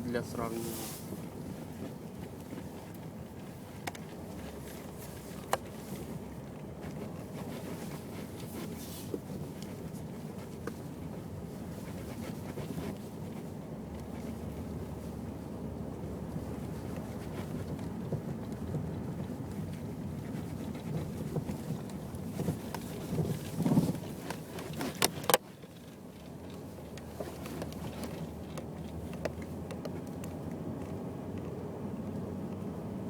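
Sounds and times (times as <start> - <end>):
road rumble in car cabin: 0.0 - 33.0.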